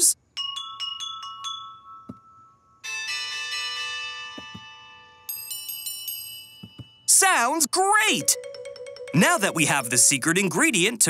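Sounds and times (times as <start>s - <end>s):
cartoon bell chimes: 0.4s - 7.2s, 8.0s - 10.6s.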